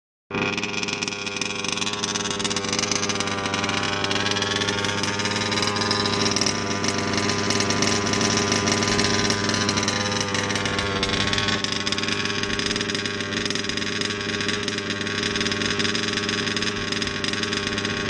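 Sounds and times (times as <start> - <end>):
small engine idling: 0.3 - 18.0.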